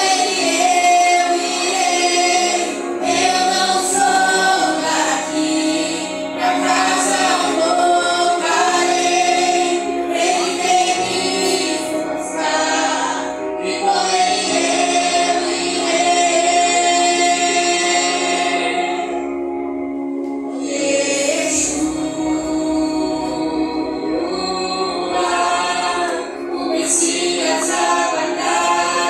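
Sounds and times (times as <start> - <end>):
vocal group singing in harmony: 0.0 - 29.0.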